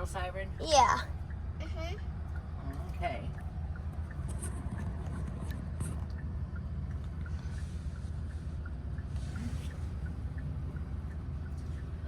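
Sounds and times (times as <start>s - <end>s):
car engine and road noise: 0.0s - 12.0s
faint light ticks: 2.3s - 12.0s.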